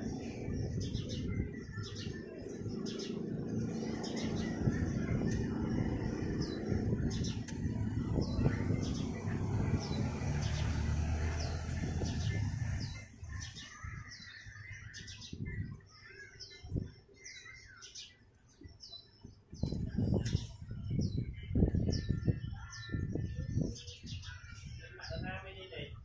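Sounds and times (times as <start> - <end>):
bird chirping: 0.0 - 25.9.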